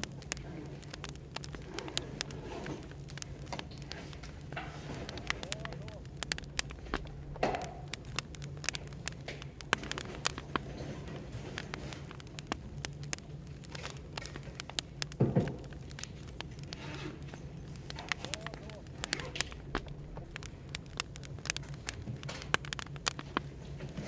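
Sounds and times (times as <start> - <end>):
cafe background hum: 0.0 - 24.0
firewood crackling and popping: 0.0 - 24.0.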